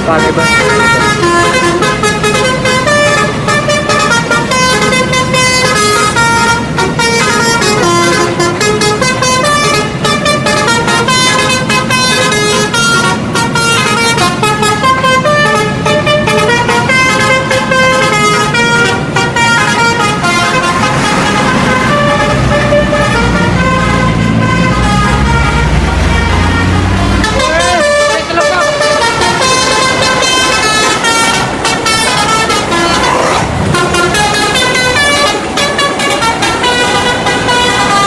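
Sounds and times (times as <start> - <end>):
multi-tone musical horn melody: 0.0 - 38.0.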